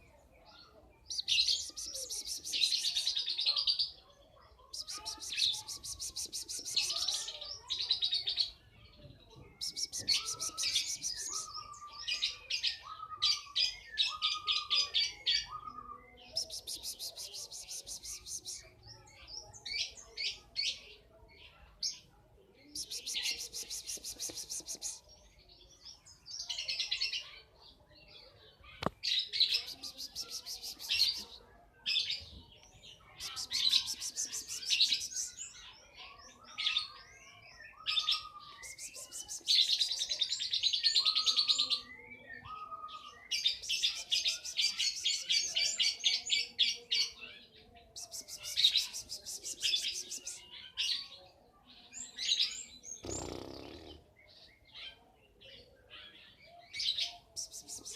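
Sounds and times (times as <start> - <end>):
bird chirps: 0.0 - 21.0, 21.8 - 27.3, 28.1 - 31.4, 32.1 - 51.2, 51.9 - 57.9.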